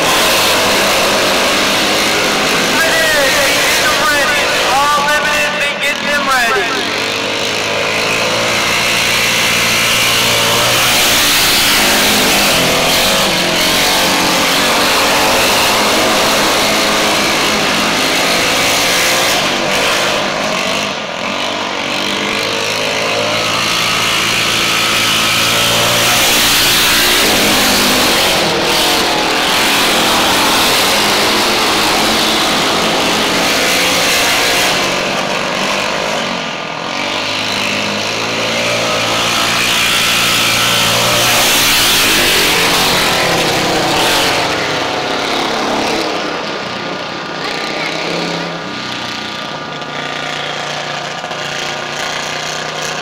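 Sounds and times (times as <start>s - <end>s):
racing engines: 0.0s - 53.0s.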